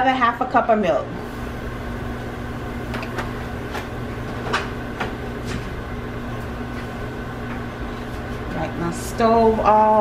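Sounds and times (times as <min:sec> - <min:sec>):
kitchen appliance electrical hum: 0:00.0 - 0:10.0.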